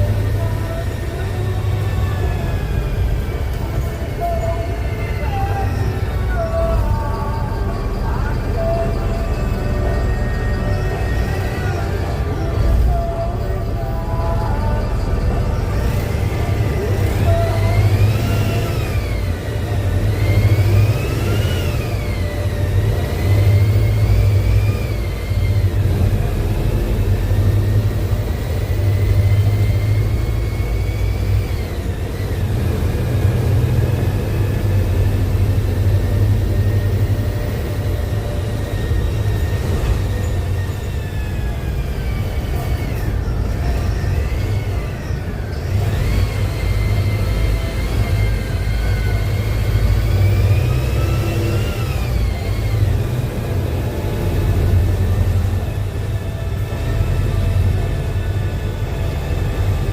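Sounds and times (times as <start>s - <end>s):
bus engine rumble and whine: 0.0s - 59.9s.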